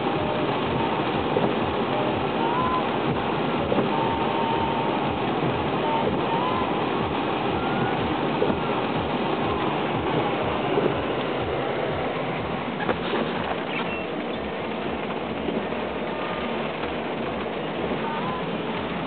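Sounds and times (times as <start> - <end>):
car engine: 0.0 - 19.0
tyres on wet pavement: 0.0 - 19.0.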